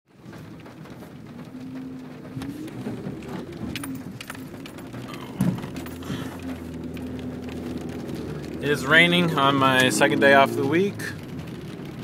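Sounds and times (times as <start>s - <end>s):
car engine hum: 0.1s - 12.0s.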